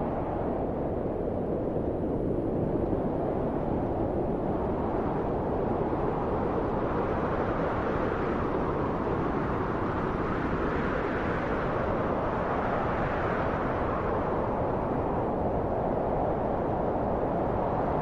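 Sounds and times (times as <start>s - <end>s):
rushing wind: 0.0s - 18.0s.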